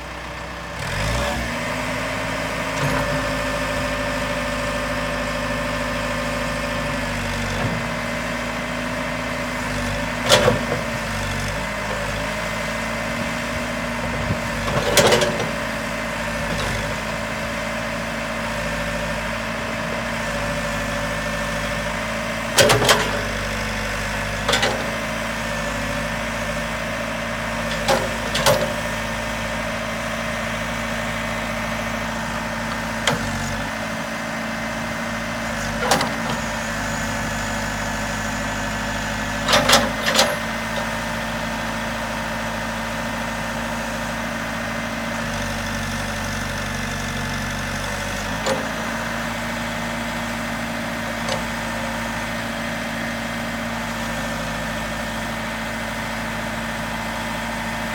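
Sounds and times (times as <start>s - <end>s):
diesel engine idling: 0.0s - 1.0s, 1.6s - 57.9s.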